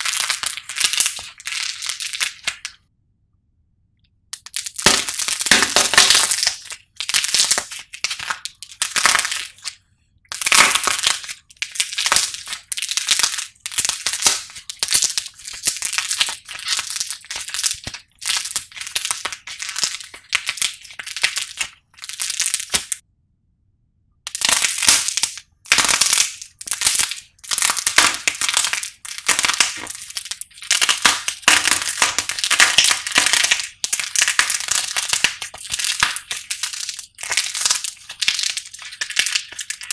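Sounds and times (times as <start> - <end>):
clay figure crackling and crunching: 0.0 - 2.8, 4.3 - 23.0, 24.3 - 39.9.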